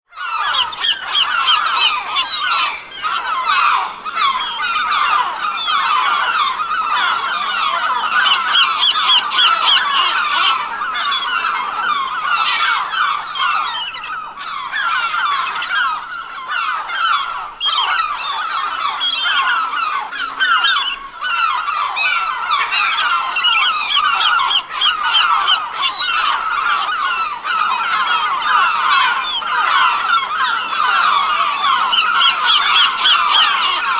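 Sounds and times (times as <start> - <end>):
gulls squawking: 0.1 - 33.9.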